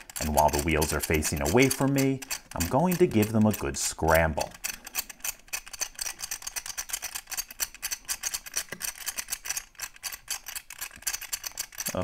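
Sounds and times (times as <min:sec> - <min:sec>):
combination wheels clicking: 0:00.0 - 0:12.0.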